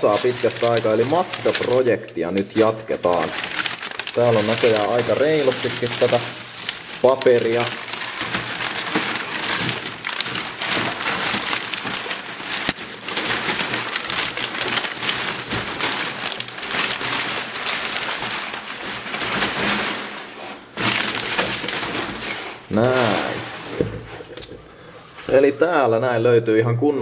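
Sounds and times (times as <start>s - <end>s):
packing paper crumpling: 0.0s - 25.5s.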